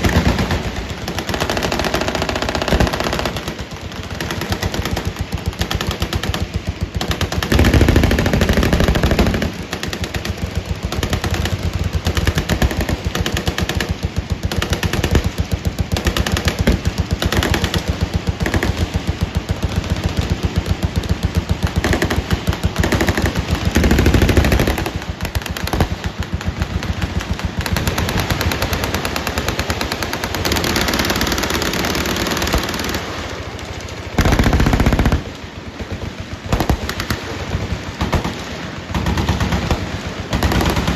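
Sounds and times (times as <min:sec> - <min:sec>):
deep blasts: 0:00.0 - 0:40.9
machine gun fire: 0:00.0 - 0:40.9.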